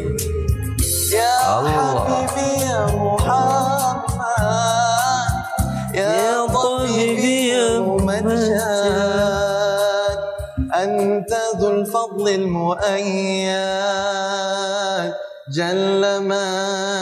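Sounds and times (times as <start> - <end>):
person reciting melodically: 0.0 - 17.0.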